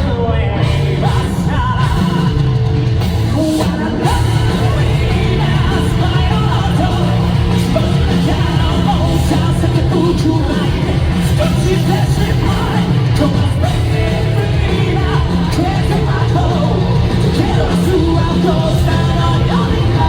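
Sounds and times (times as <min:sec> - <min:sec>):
live rock band playing: 0:00.0 - 0:20.0
person singing: 0:03.4 - 0:20.0.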